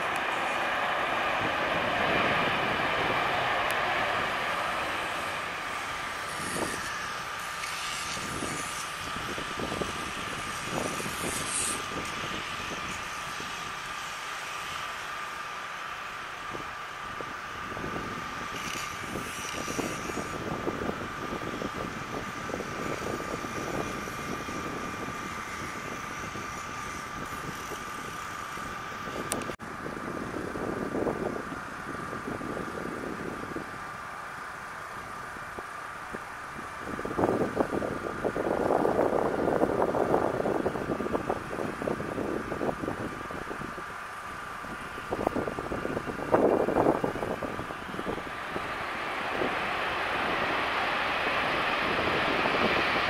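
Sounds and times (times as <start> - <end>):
airliner engines on approach: 0.0 - 53.0
jet engine whine and rush: 0.0 - 53.0.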